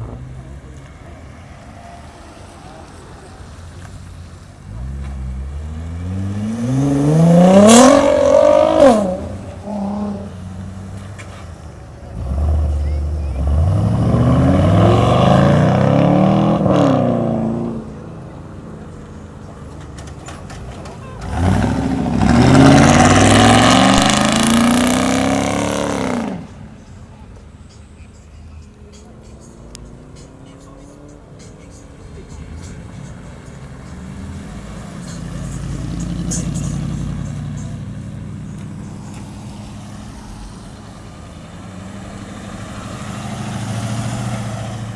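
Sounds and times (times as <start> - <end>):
car engine revving: 0.0 - 44.9
exhaust crack: 2.5 - 44.9.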